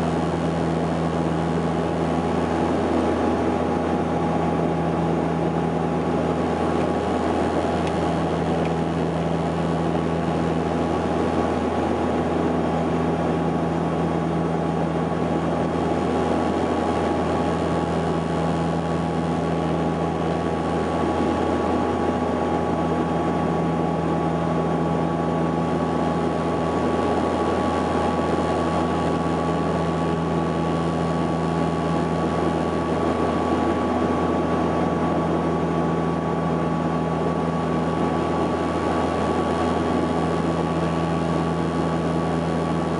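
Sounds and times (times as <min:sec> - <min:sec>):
turboprop engines droning: 0:00.0 - 0:42.9.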